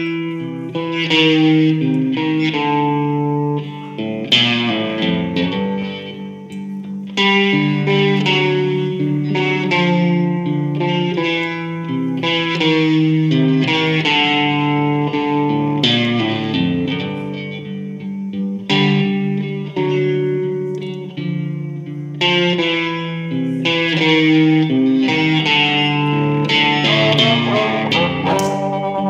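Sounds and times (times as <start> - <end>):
electric guitar playing blues: 0.0 - 29.0.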